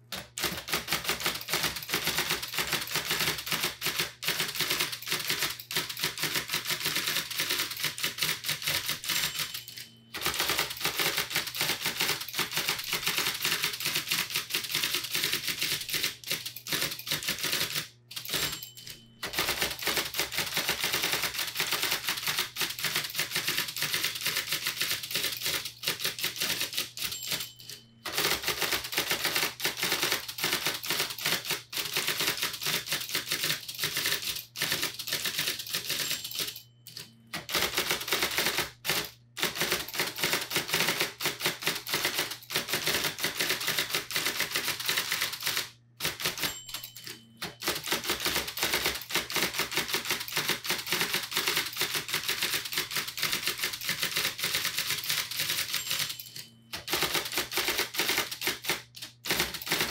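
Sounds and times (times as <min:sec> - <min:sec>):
typewriter motor hum: 0:00.0 - 0:27.4, 0:28.0 - 0:36.4, 0:37.0 - 0:59.9
electric typewriter clacking: 0:00.0 - 0:59.9.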